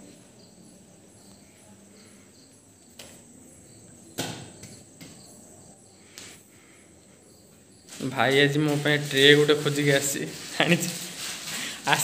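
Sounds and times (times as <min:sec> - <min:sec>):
crickets chirping faintly: 0:00.0 - 0:12.0.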